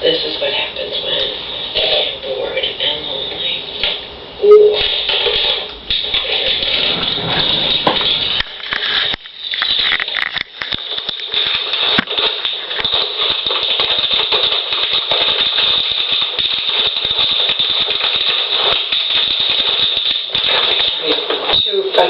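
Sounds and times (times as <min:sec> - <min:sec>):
dense crackling static: 0:00.1 - 0:22.0.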